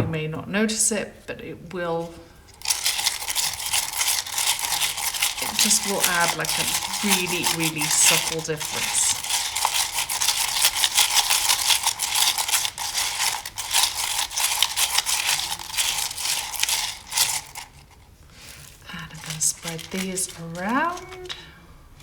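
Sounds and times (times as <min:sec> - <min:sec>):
shells and pebbles rattling: 0:02.0 - 0:22.0.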